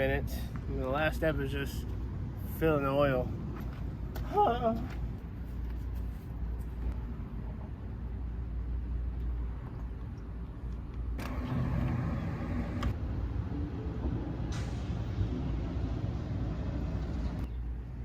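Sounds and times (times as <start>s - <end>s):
motor vehicle rumbling: 1.7s - 18.0s.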